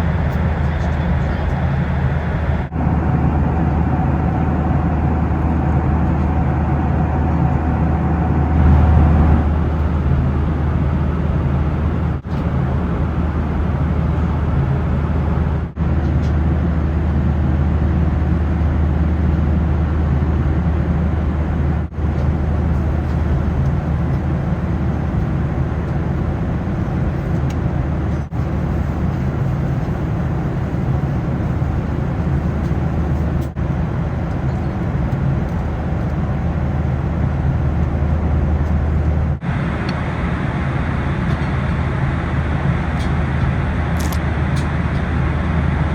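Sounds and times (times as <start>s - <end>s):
airplane cabin engine hum: 0.0s - 45.9s.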